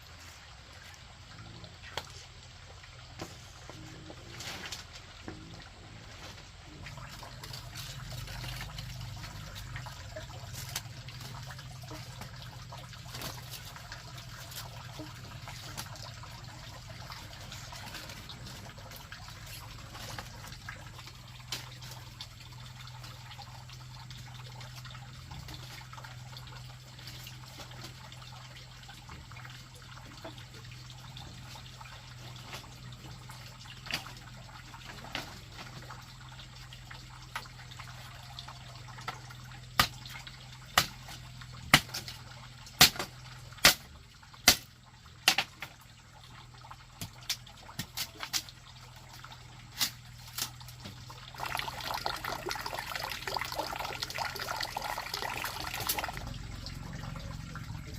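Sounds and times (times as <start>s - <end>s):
water trickling and dripping: 0.0s - 57.9s
sharp drips: 5.0s - 57.9s.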